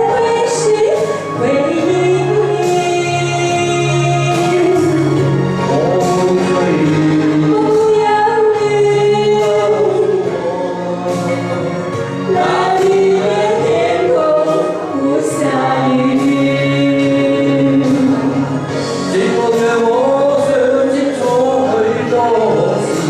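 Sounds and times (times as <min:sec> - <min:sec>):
instrumental accompaniment: 0:00.0 - 0:23.0
voices singing long notes: 0:00.0 - 0:23.0.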